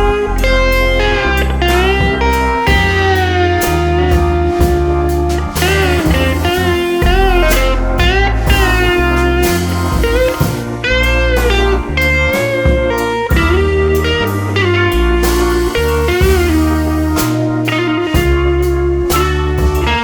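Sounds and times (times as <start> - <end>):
sliding guitar melody: 0.0 - 20.0
steady bass line: 0.0 - 20.0.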